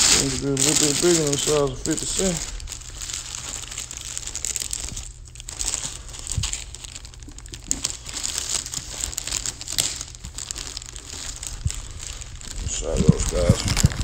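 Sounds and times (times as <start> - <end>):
plastic bag crinkling: 0.0 - 14.0
steady low hum: 0.0 - 14.0.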